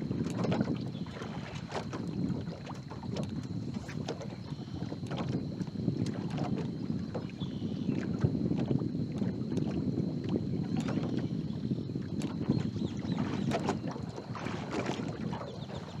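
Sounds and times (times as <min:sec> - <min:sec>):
small ticks and splashes: 0:00.0 - 0:16.0
water lapping against boat hull: 0:00.0 - 0:16.0
wind buffeting microphone: 0:00.0 - 0:16.0.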